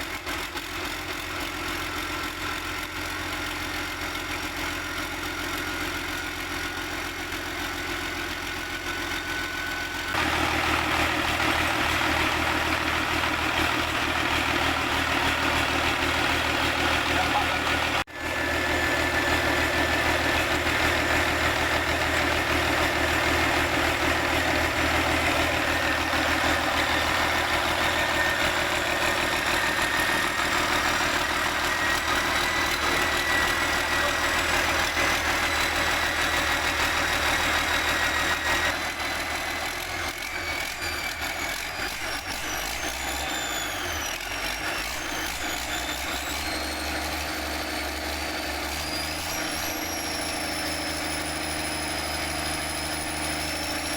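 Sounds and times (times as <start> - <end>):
machine whining: 10.1 - 53.9.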